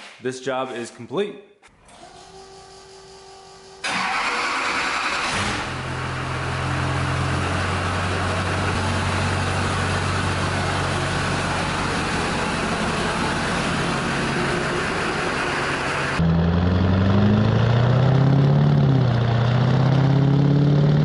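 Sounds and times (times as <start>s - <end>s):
diesel engine cranking and starting: 1.7s - 21.0s.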